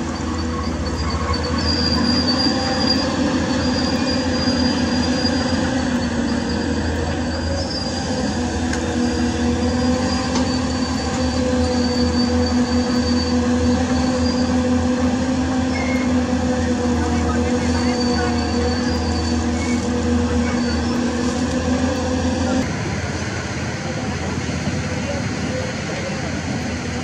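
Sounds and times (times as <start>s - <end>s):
diesel engine running: 0.0s - 27.0s
hydraulic whine: 0.0s - 27.0s.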